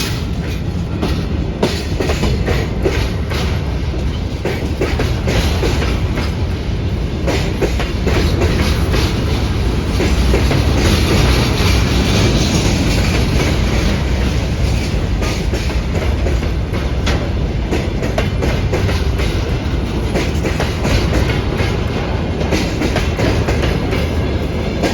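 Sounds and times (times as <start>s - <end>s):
freight train wheels clacking: 0.0s - 24.9s.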